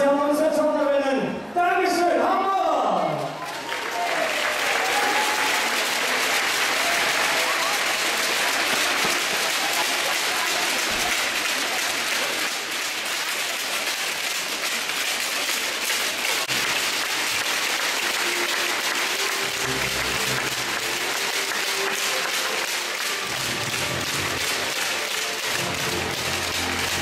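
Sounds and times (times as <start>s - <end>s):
audience applauding: 3.1s - 27.0s.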